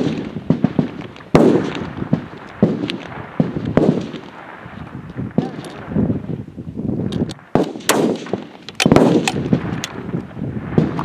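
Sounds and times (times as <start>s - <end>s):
rifle shots echoing: 0.0s - 6.0s, 7.2s - 11.0s.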